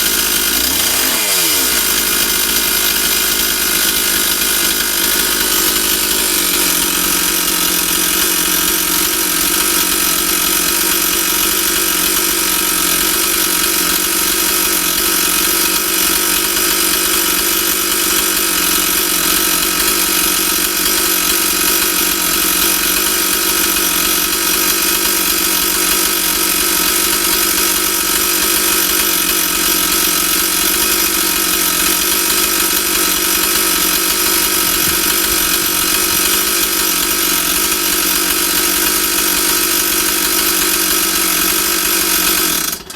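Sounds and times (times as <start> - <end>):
chainsaw engine running: 0.0 - 42.9.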